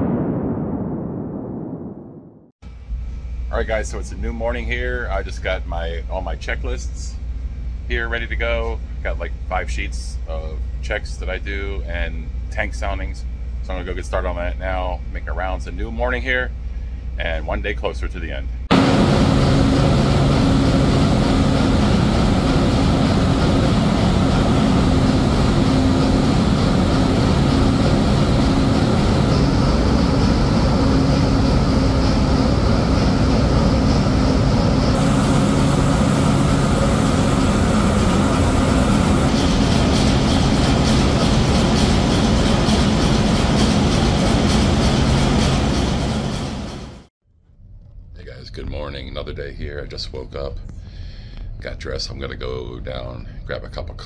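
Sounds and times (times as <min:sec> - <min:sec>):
diesel engine room drone: 0:02.6 - 0:47.1.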